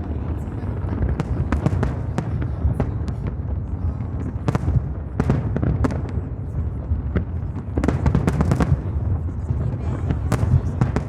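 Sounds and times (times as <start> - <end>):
fireworks crackling pops: 0.0 - 11.0
fireworks rumbling bursts: 0.0 - 11.0.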